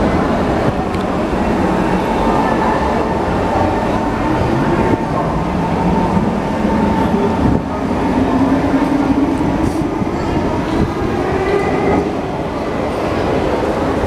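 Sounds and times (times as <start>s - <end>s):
metro train rumble and hum: 0.0s - 14.0s.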